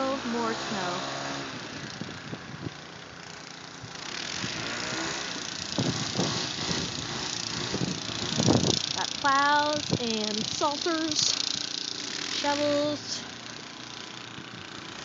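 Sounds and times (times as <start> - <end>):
atv engine running: 0.0 - 15.0
short rough noises: 1.0 - 15.0
steady rushing noise: 1.3 - 15.0.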